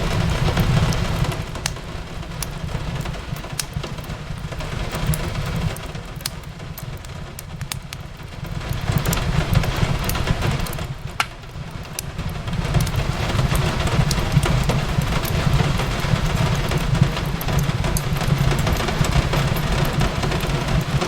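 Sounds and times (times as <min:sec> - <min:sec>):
rain hissing on a window: 0:00.0 - 0:21.0
wood fire crackling and popping: 0:00.0 - 0:21.0.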